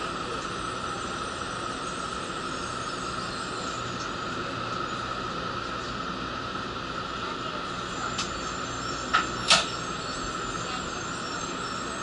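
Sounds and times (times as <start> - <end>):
high-pitched hum: 0.0 - 12.0
train interior hiss: 0.0 - 12.0.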